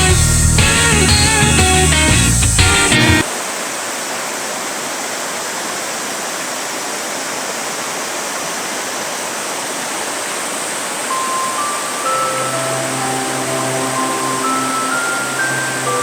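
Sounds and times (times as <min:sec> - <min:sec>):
flowing water rushing: 0:02.5 - 0:16.0.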